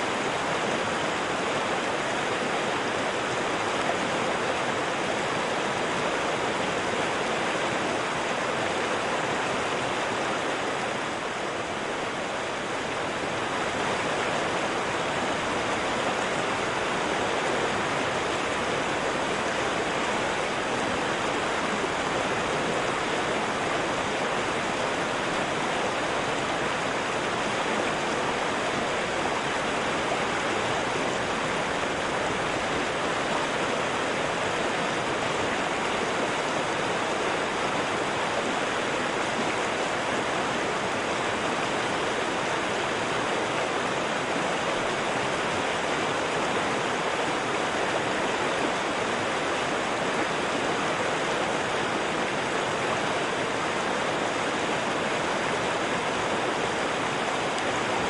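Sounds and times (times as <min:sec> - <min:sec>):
river and waterfall rushing: 0:00.0 - 0:58.0.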